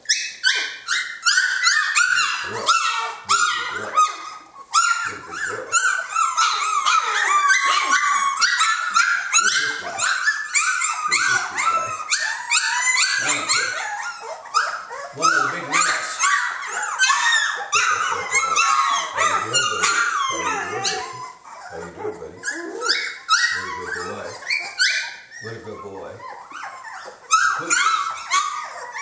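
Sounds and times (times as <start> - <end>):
puppies whining and yelping: 0.0 - 29.0.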